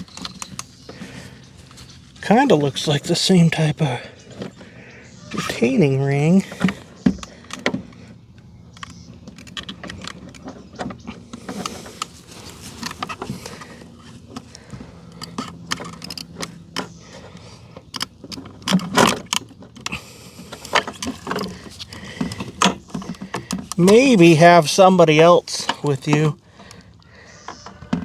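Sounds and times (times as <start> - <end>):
plastic and metal parts clicking: 0.0 - 1.2, 6.4 - 28.0.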